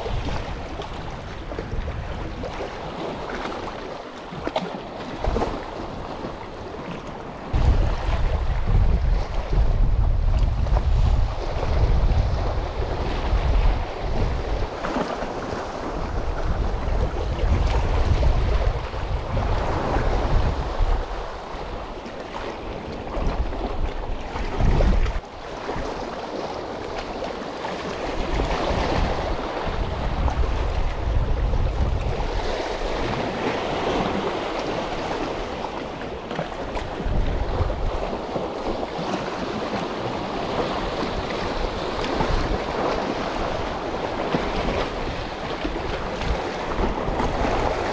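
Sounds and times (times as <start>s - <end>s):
wind rumbling on microphone: 0.0s - 47.9s.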